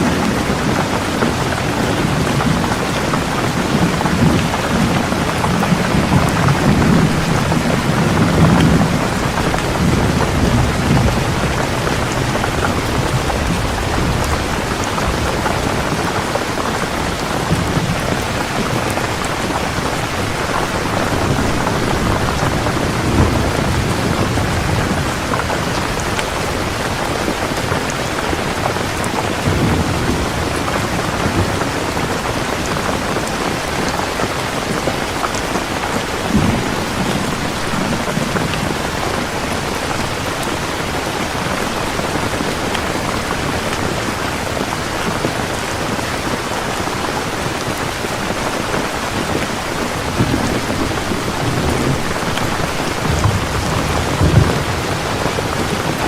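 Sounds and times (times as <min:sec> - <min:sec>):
distant thunder rumbling: 0:00.0 - 0:45.9, 0:48.8 - 0:56.0
heavy rain pouring: 0:00.0 - 0:56.0.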